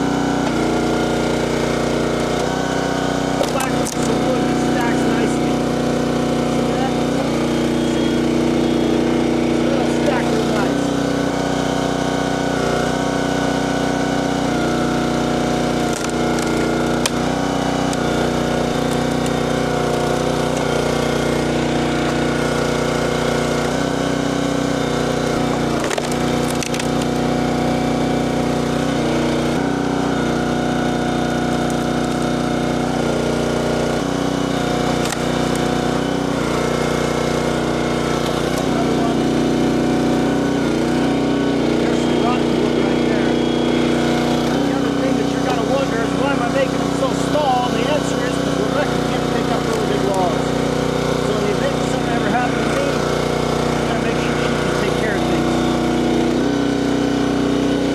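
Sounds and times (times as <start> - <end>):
small gasoline engine running: 0.0 - 57.9
wood splitting cracks: 0.4 - 8.4, 13.5 - 41.2, 43.4 - 57.8.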